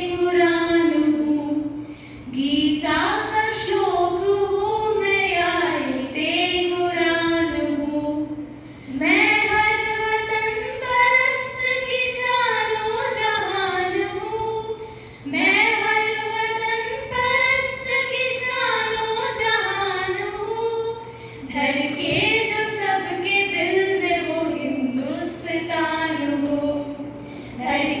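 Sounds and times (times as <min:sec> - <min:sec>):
girls singing unaccompanied: 0:00.0 - 0:28.0.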